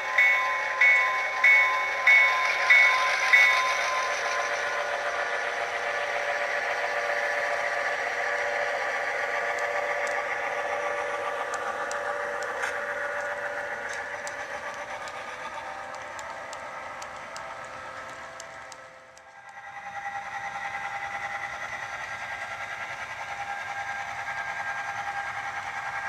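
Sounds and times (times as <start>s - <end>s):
model train cars clicking: 0.0s - 26.0s.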